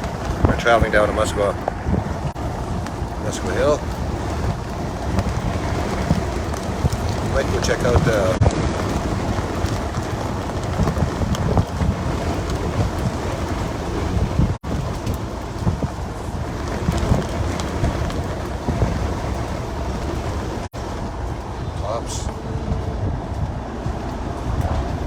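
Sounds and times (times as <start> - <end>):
vehicle road rumble inside cabin: 0.0 - 25.0.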